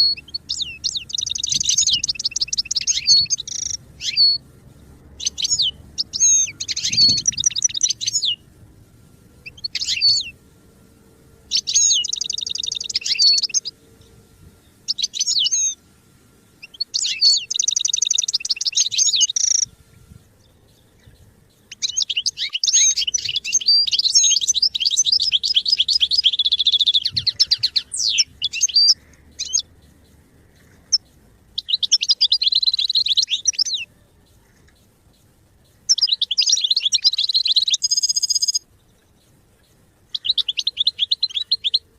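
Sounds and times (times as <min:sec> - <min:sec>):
goldfinch singing twitters and trills: 0:00.0 - 0:08.5, 0:09.4 - 0:10.4, 0:11.4 - 0:15.8, 0:16.5 - 0:41.9.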